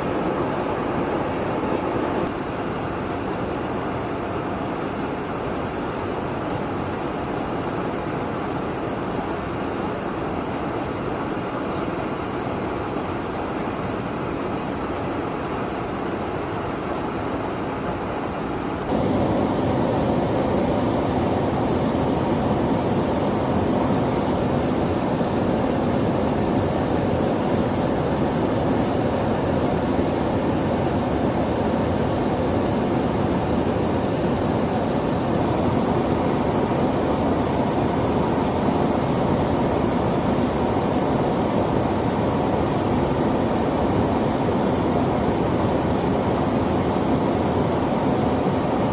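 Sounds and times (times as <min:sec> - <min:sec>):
aircraft engines and rushing air: 0:00.0 - 0:48.9.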